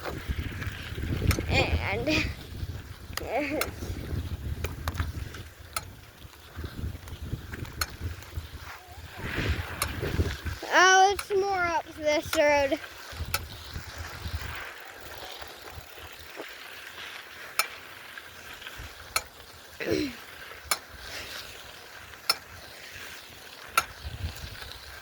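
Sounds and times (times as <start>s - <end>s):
bicycle riding hiss: 0.0s - 25.0s.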